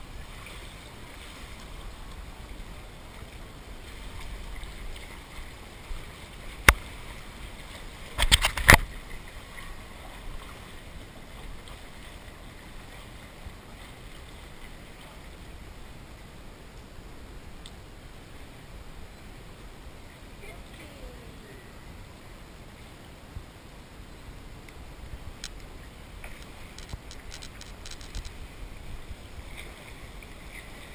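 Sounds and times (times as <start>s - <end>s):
background hiss: 0.0s - 30.9s
faint water sounds: 0.0s - 30.9s.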